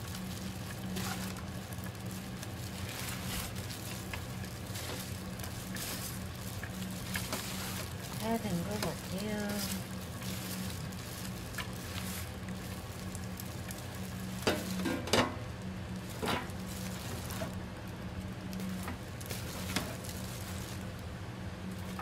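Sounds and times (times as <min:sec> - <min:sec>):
low steady hum: 0:00.0 - 0:22.0
wet rustling of tossed food: 0:00.0 - 0:22.0.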